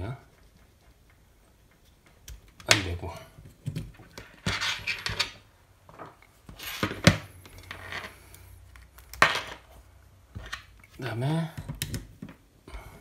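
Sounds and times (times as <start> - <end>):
cables rustling and clicking: 0.0 - 12.8.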